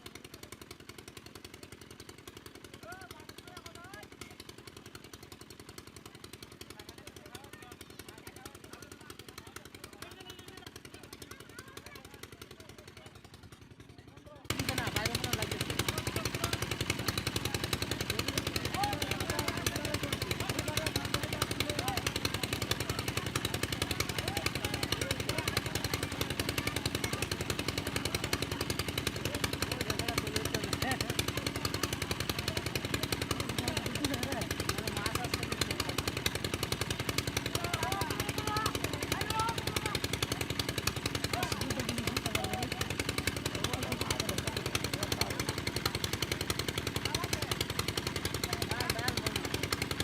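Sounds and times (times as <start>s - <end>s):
pump engine thudding steadily: 0.0s - 50.0s
faint voices: 6.6s - 50.0s.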